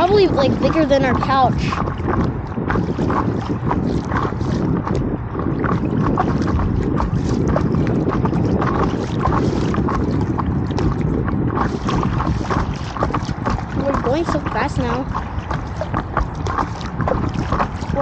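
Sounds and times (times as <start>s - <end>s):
water splashing against board: 0.0s - 18.0s
wind rumbling on microphone: 0.0s - 18.0s.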